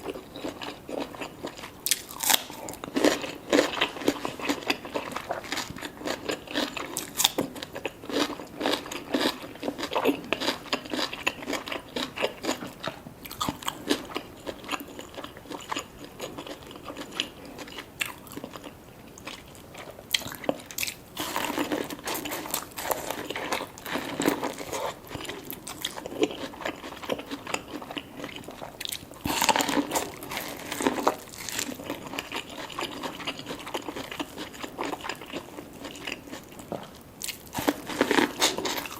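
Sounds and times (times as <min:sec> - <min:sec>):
person chewing food wetly: 0:00.0 - 0:38.9.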